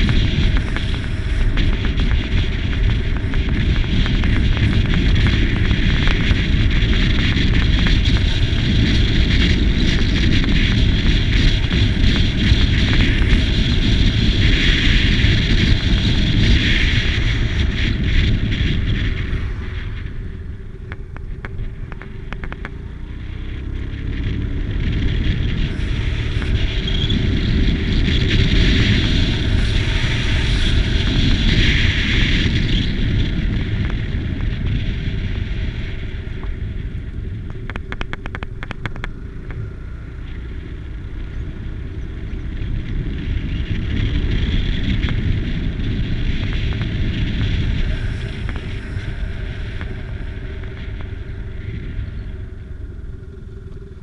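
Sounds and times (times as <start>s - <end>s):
scooter engine: 0.0s - 54.0s
wind rushing over microphone: 0.0s - 54.0s.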